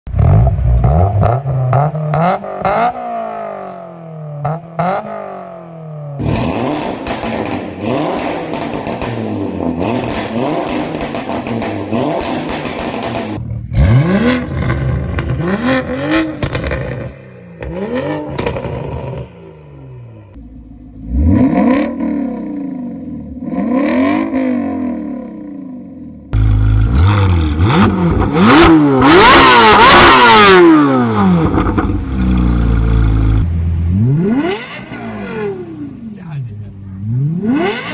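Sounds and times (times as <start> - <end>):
car exhausts revving: 0.1 - 37.9.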